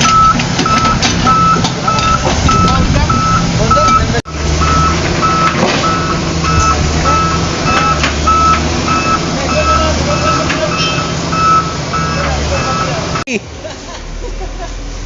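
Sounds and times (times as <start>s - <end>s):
reversing alarm beeping: 0.0s - 13.3s
diesel engine running: 0.0s - 15.0s.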